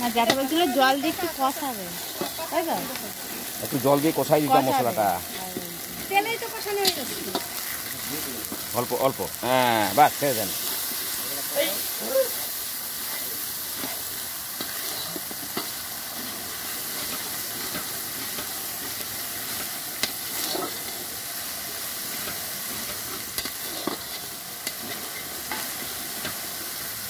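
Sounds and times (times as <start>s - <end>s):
spice paste sizzling in oil: 0.0s - 27.0s.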